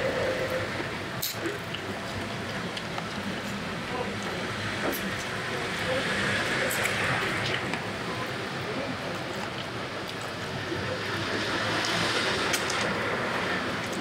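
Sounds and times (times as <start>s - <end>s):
steady rushing background noise: 0.0s - 14.0s.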